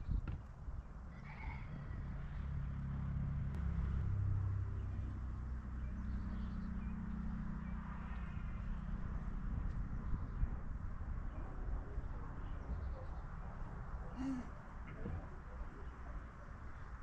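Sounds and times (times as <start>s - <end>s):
engine humming: 1.0s - 17.0s.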